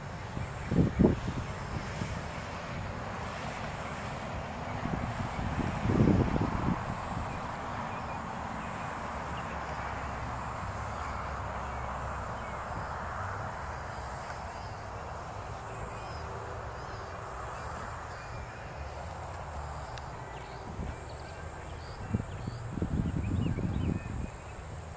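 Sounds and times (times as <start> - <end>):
wind gust on microphone: 0.0 - 14.0, 14.9 - 24.9
distant traffic: 0.0 - 24.9
wind: 0.0 - 24.9.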